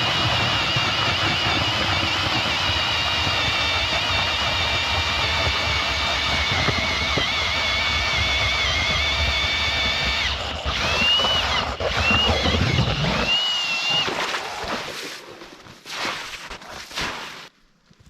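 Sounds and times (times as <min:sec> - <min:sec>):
small engine revving: 0:00.0 - 0:14.6.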